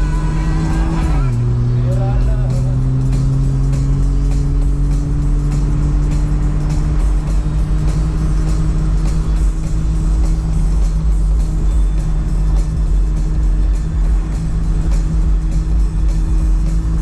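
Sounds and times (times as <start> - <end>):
motorcycle engine running: 0.0 - 17.0
music with steady beat: 0.0 - 17.0.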